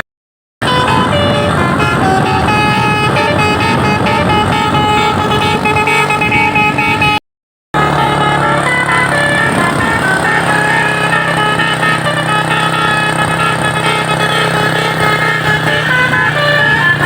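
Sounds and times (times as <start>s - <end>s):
musical air horn tune: 0.6s - 7.2s, 7.8s - 17.0s
truck engine running: 0.6s - 7.2s, 7.8s - 17.0s.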